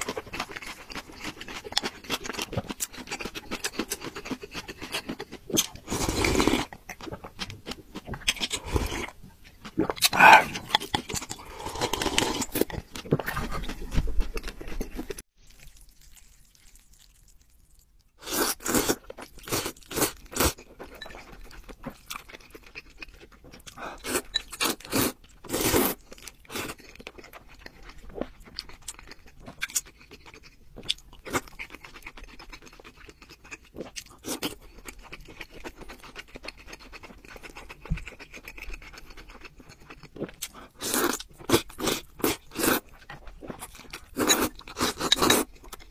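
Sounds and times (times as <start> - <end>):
chewing: 0.0 - 45.9.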